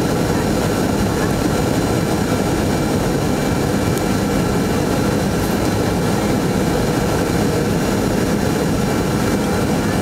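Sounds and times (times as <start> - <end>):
jet engines and rushing air: 0.0 - 10.0.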